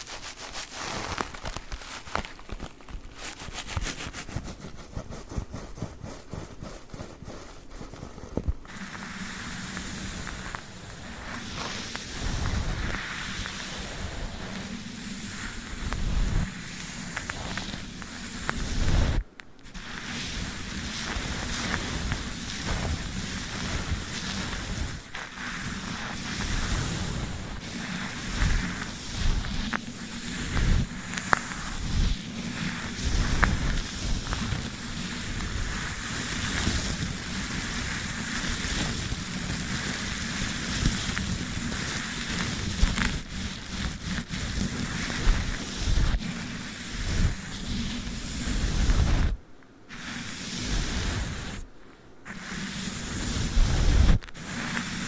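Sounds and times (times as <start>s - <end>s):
brush scratching microphone: 0.0s - 51.7s, 52.3s - 55.0s.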